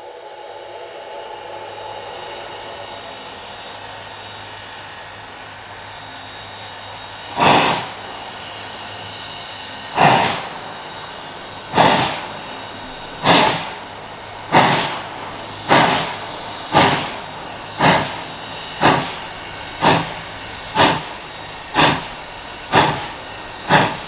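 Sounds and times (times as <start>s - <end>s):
steam hissing: 0.0s - 24.0s
steam locomotive exhaust chuffs: 0.0s - 24.0s.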